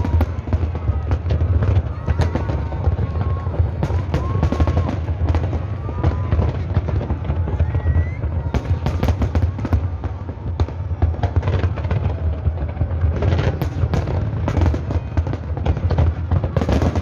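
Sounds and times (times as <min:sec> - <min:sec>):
fireworks crackling and booming: 0:00.0 - 0:17.0.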